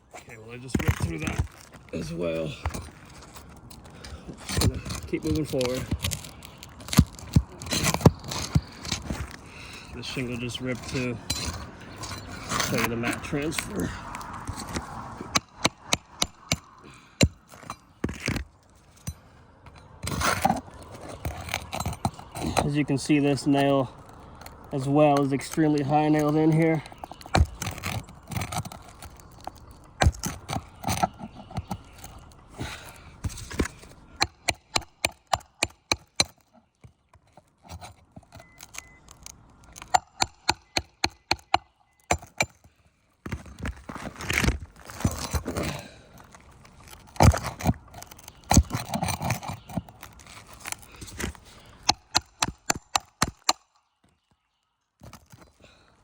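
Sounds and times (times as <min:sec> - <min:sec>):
shingles scraping and cracking: 0:00.0 - 0:56.0.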